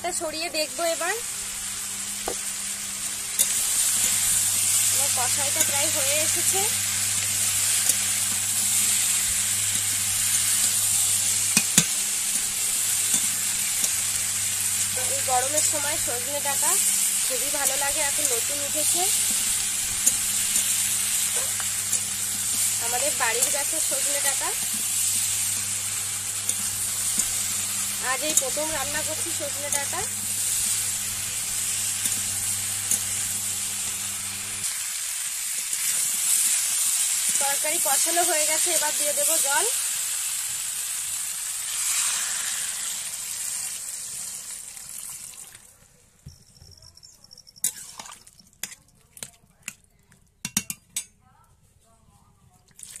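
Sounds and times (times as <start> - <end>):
vegetables sizzling in hot oil: 0.0 - 45.6, 47.3 - 48.6.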